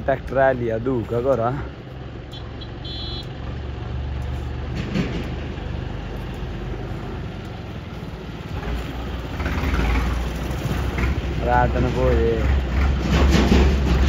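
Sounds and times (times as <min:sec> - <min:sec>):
heavy vehicle engine rumbling: 0:00.0 - 0:14.0.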